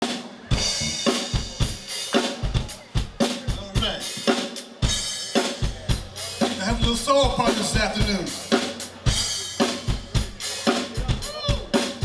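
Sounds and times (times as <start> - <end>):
cymbals: 0.0 - 12.0
drum kit playing a steady beat: 0.0 - 12.0
faint band instruments: 0.0 - 12.0.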